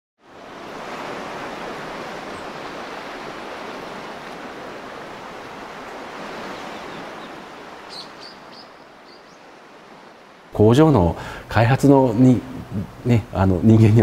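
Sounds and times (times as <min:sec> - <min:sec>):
small waves washing onto beach: 0:00.2 - 0:14.0.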